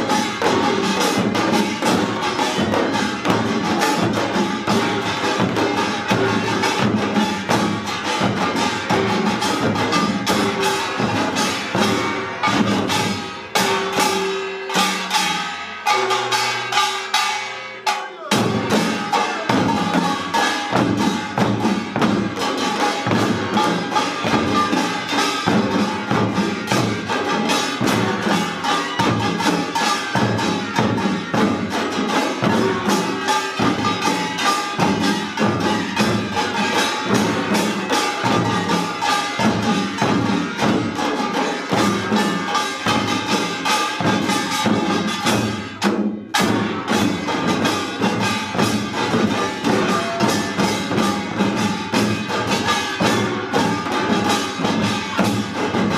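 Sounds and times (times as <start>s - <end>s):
drums playing fast beat: 0.0s - 55.9s
small gongs: 0.0s - 55.9s.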